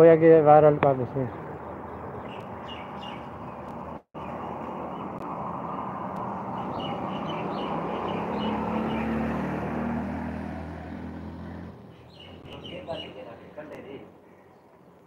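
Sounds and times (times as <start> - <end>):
birds chirping: 0.8 - 9.7, 11.4 - 15.0
vehicle passing on road: 1.5 - 15.0.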